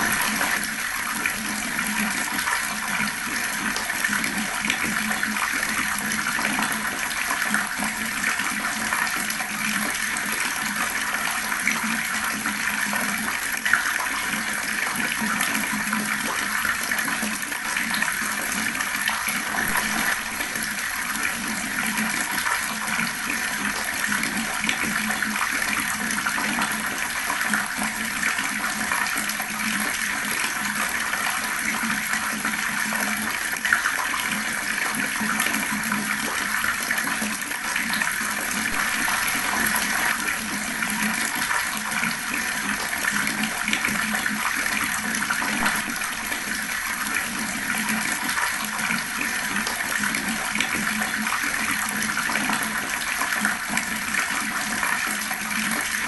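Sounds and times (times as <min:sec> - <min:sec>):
fast-flowing water: 0:00.0 - 0:56.0.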